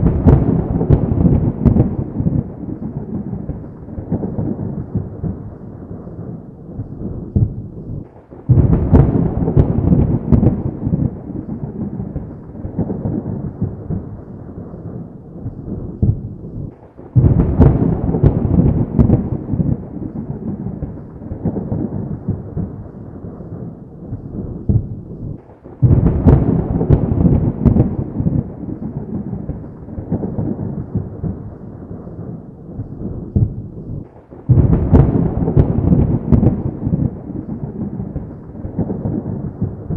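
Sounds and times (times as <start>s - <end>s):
thunder cracking and rumbling: 0.0s - 39.9s.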